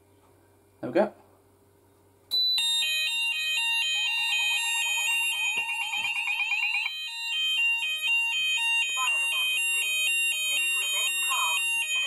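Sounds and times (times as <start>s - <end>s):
alternating two-tone fire alarm: 2.3s - 12.0s
fast sweeping alarm tone: 2.3s - 12.0s.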